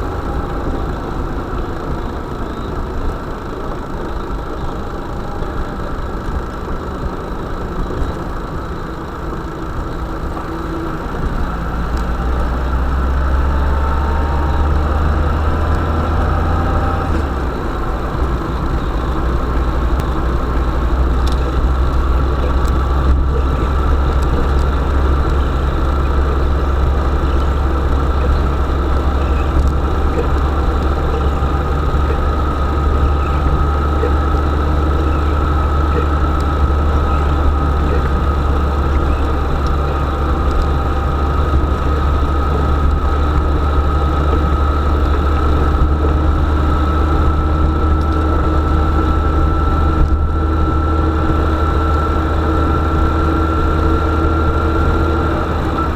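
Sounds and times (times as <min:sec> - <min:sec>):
vehicle engine droning: 0:00.0 - 0:55.9.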